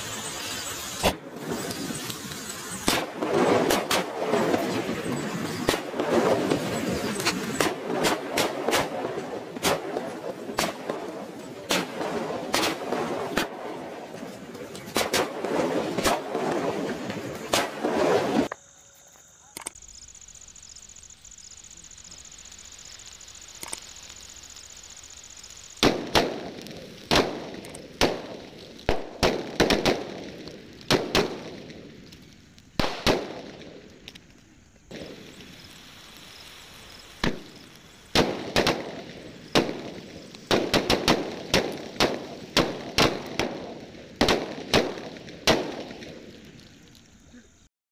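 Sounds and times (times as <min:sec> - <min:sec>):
firecracker bangs: 0:00.0 - 0:18.6, 0:25.8 - 0:34.2, 0:34.9 - 0:46.8
firecrackers crackling: 0:00.0 - 0:47.7.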